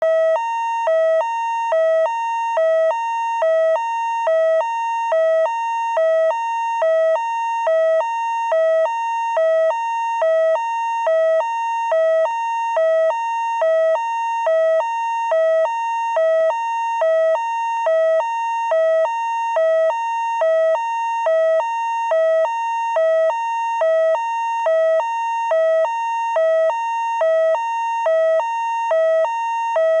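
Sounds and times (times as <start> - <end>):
fire truck two-tone siren: 0.0 - 30.0.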